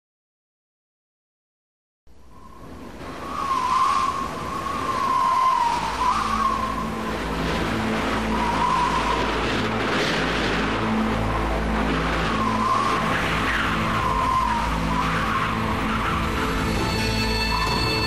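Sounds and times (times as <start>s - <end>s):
howling wind with whistle: 2.2s - 18.0s.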